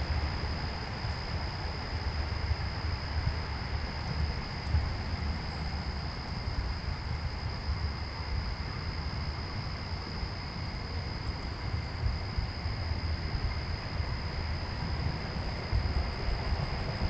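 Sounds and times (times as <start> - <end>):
constant hiss: 0.0 - 17.0.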